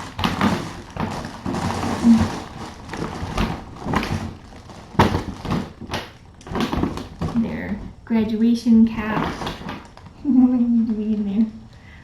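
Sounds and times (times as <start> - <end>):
objects rustling: 0.0 - 11.8.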